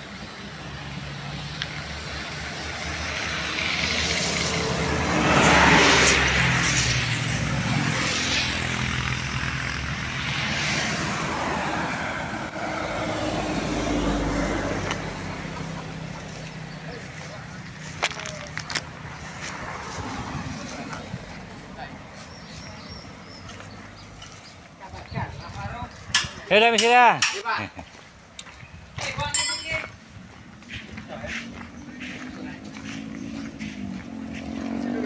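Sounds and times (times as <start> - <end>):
vehicles passing on highway: 0.0 - 35.0.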